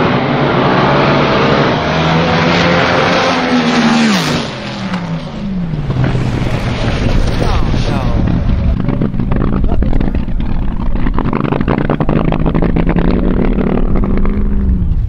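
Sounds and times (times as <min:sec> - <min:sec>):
dragster engines at full throttle: 0:00.0 - 0:15.0.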